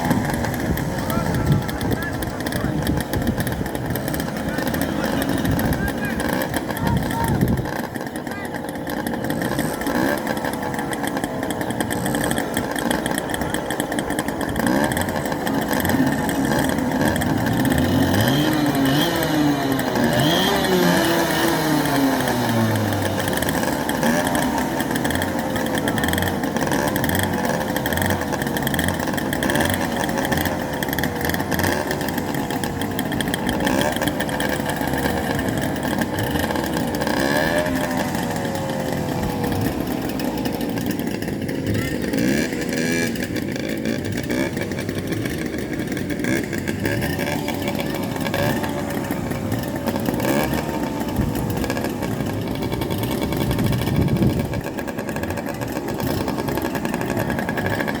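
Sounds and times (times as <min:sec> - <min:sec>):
go-kart engines revving: 0:00.0 - 0:58.0.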